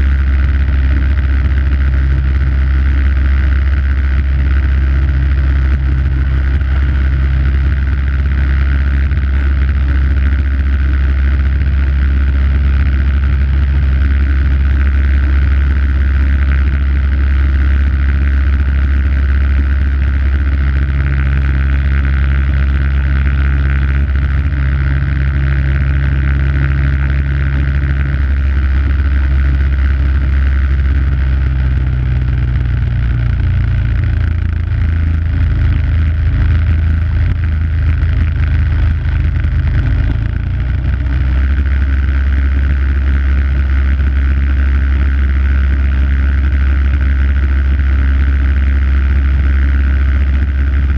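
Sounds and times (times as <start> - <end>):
snowblower engine running: 0.0 - 50.9.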